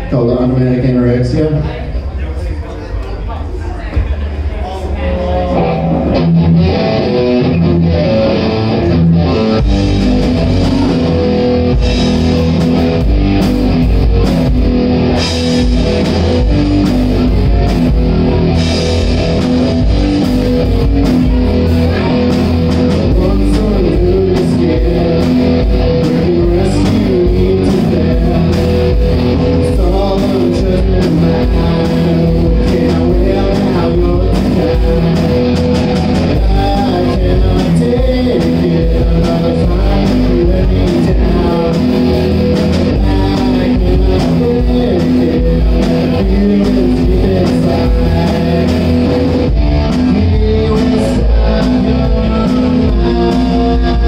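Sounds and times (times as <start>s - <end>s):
electric bass: 0.0s - 54.0s
electric guitar: 3.9s - 54.0s
drum kit: 5.4s - 54.0s.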